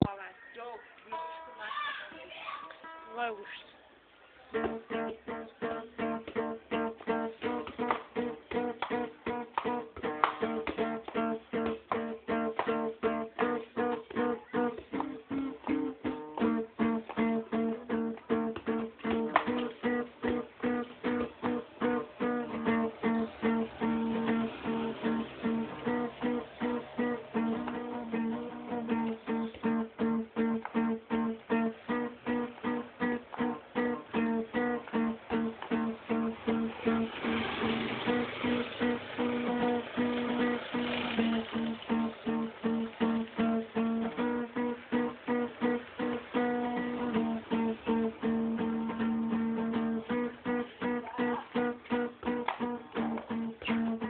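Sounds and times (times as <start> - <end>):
acoustic guitar strumming: 1.1 - 3.6, 4.5 - 54.0.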